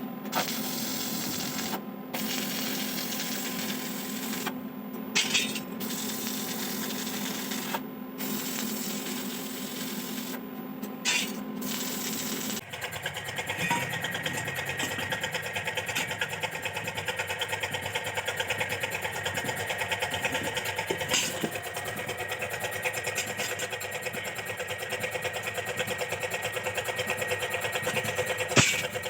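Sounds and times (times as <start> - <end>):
motor-driven machine running: 0.4 - 29.0.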